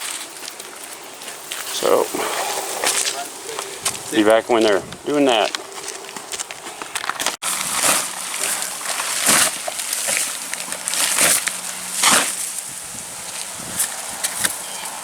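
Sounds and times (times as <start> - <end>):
shovels scraping shingles: 1.2 - 15.0.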